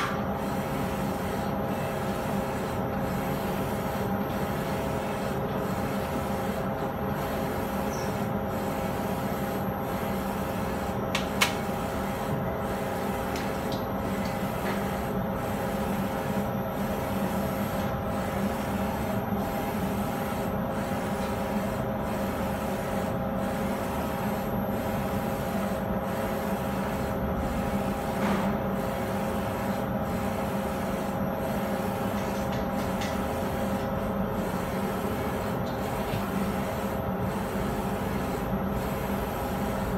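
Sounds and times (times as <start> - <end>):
printer mechanical hum: 0.0 - 39.9.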